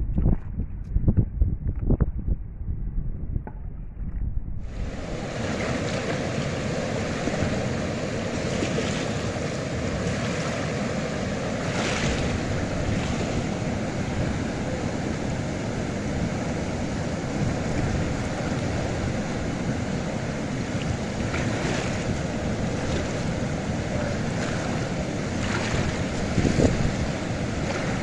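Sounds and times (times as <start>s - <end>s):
water rushing from sluice outlet: 4.7s - 28.0s.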